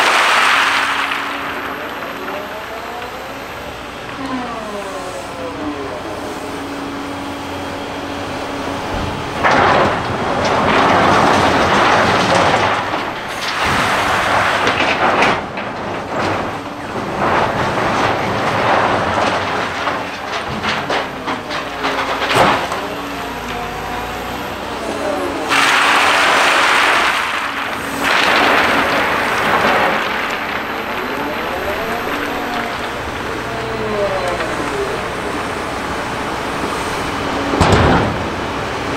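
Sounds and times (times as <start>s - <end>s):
machine engine and hydraulics whining: 0.0s - 38.9s.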